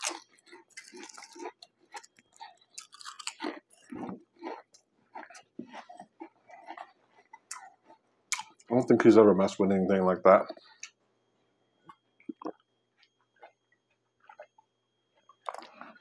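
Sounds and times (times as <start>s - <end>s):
chewing crisp potato chips: 0.0s - 11.0s, 11.9s - 16.0s.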